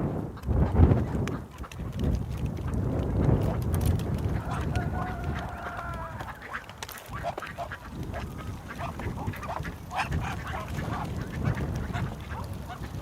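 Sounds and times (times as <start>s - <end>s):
ducks quacking: 0.2s - 13.0s.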